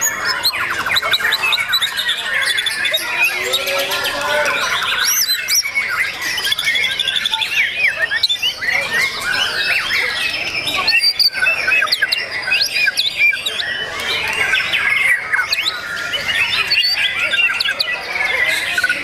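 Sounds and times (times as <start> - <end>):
many songbirds singing: 0.0 - 19.0.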